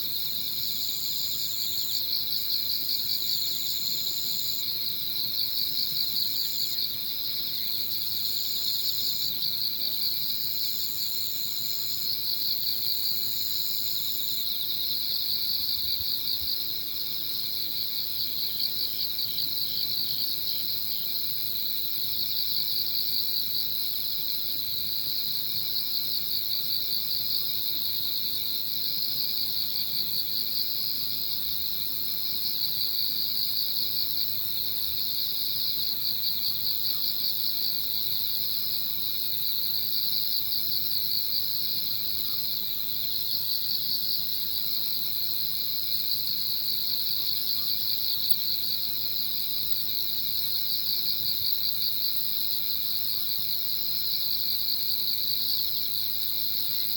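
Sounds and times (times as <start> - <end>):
crickets and insects trilling: 0.0 - 56.9.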